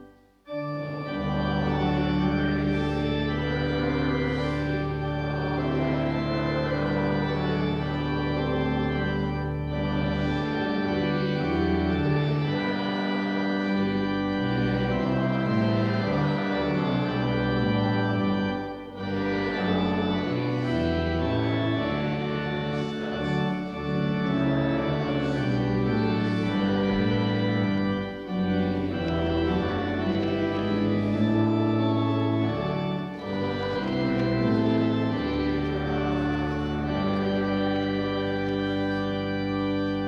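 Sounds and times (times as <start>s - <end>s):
church organ playing a hymn: 0.0s - 40.0s.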